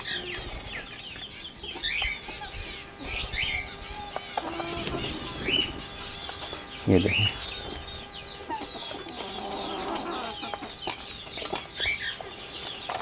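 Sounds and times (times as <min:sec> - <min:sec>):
parakeets chirping: 0:00.0 - 0:13.0.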